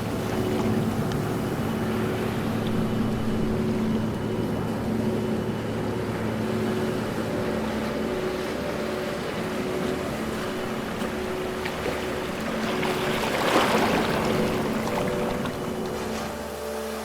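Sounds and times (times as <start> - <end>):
low steady hum: 0.0 - 17.0
rush of sea water: 0.0 - 17.0.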